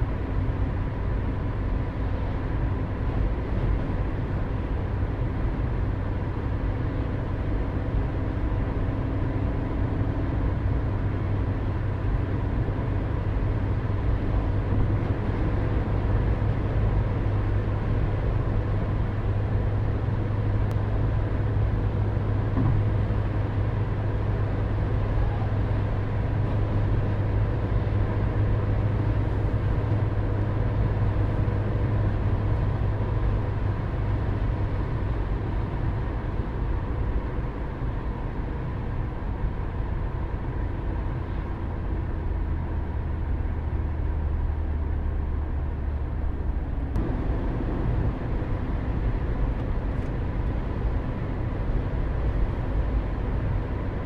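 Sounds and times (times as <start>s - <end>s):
car road and engine drone: 0.0s - 54.0s.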